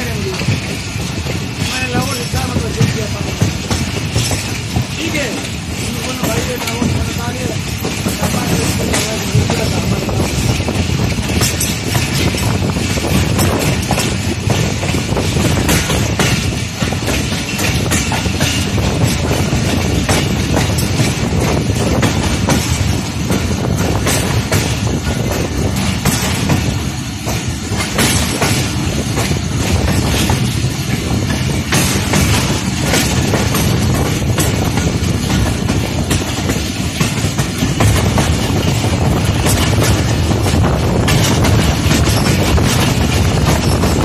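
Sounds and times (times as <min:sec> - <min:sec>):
train rumbling on track: 0:00.0 - 0:44.0
wheels clacking over rail joints: 0:00.0 - 0:44.0.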